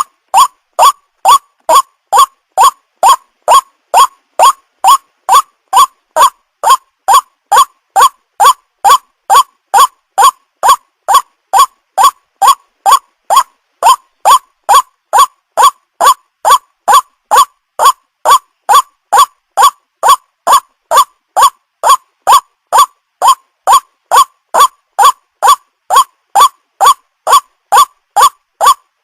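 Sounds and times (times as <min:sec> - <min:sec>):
waterhen calling: 0:00.0 - 0:28.8.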